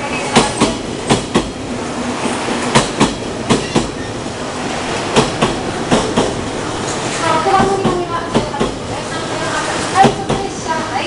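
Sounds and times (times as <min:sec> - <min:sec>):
train rolling noise: 0:00.0 - 0:11.0.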